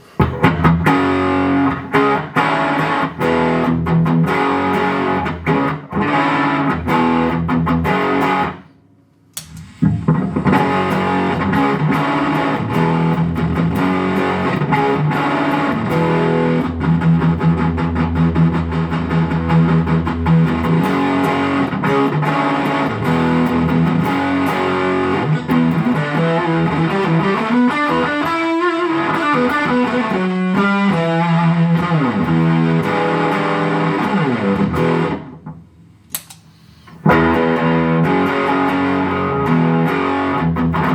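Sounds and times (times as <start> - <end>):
distorted electric guitar: 0.0 - 8.7, 9.4 - 35.7, 37.0 - 40.9.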